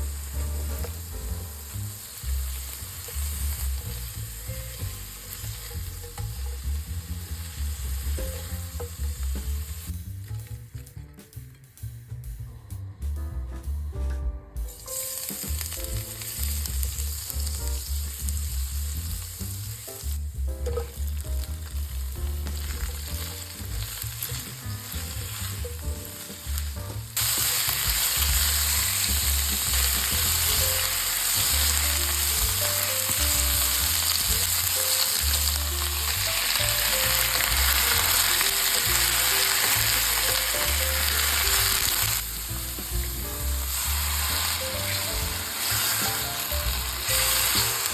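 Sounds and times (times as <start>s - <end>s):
food sizzling in a pan: 0.0s - 10.5s, 14.6s - 47.9s.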